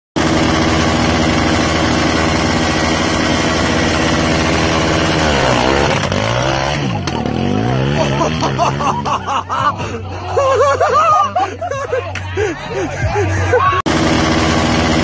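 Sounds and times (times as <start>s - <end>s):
quad bike engine running: 0.2s - 11.8s, 12.8s - 15.0s.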